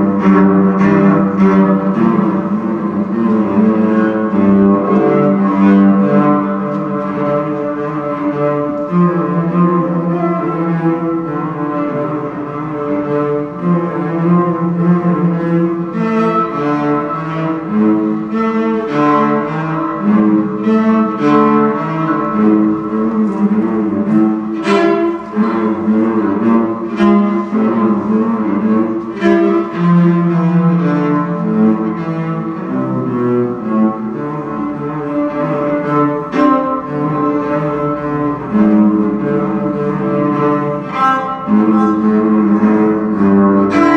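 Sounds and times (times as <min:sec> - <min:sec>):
bowed cello: 0:00.0 - 0:43.9.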